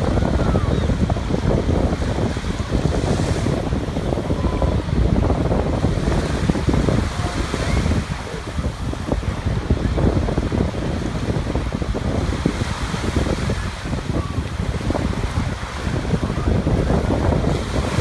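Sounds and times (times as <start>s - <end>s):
small waves breaking on shore: 0.0s - 18.0s
wind buffeting microphone: 0.0s - 18.0s.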